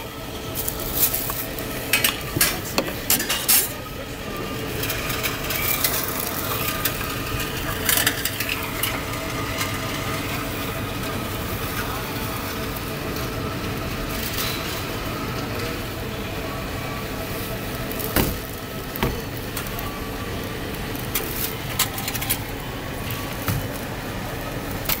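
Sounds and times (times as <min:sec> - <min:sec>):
steady shop-floor hum: 0:00.0 - 0:25.0.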